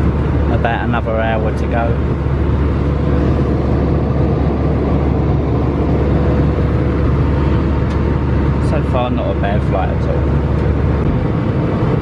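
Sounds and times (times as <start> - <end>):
airplane cabin engine and airflow rush: 0.0 - 12.0.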